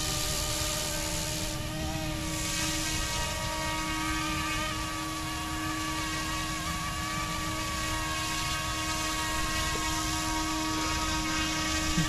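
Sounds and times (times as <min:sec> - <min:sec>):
toy helicopter rotor whine: 0:00.0 - 0:12.0.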